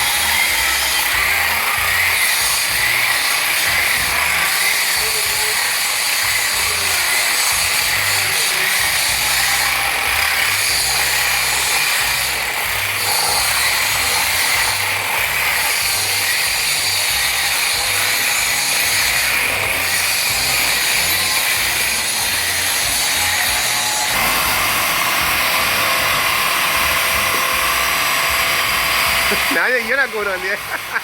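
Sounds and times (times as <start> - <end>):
power tool grinding metal: 0.0 - 31.0.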